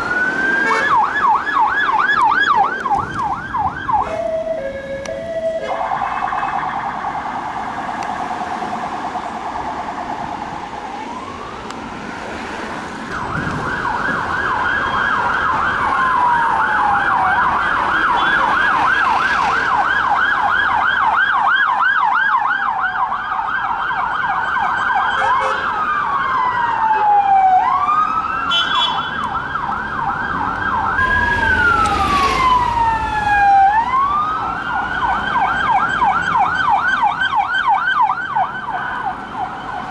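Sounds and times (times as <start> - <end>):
police sirens yelping and wailing: 0.0 - 39.9.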